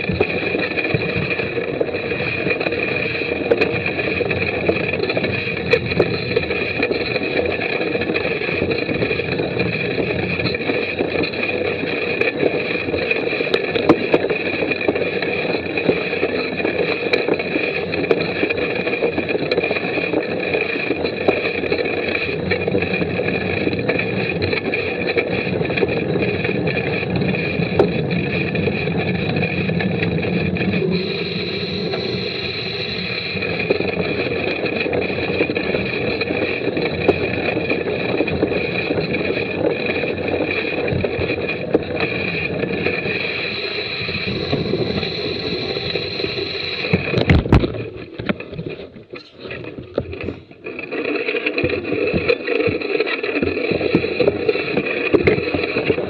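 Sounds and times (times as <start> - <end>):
bike rattling: 0.0 - 56.0
tyres rumbling on dirt: 0.0 - 56.0
wind: 0.0 - 56.0.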